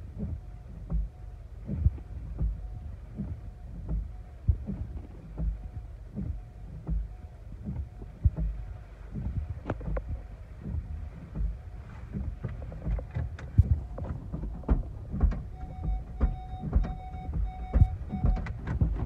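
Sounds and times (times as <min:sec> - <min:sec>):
wind and rain buffeting a car: 0:00.0 - 0:19.0
windshield wiper sweeping: 0:00.0 - 0:19.0
low thumps: 0:00.2 - 0:19.0.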